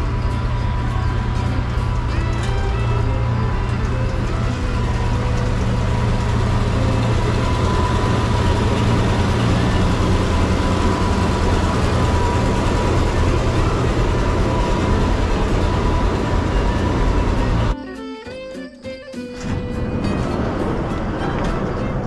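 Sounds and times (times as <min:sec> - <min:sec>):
tractor engine rumble: 0:00.0 - 0:17.8, 0:19.4 - 0:22.0
high-pitched steady tone: 0:00.0 - 0:22.0.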